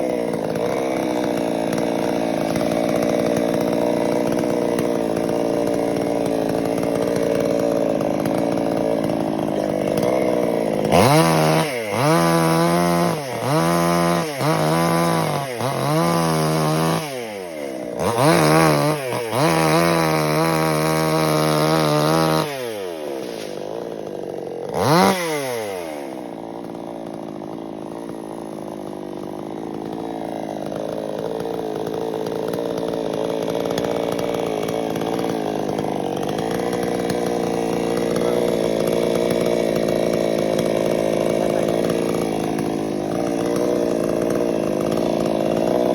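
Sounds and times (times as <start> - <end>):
chainsaw engine revving: 0.0 - 45.9.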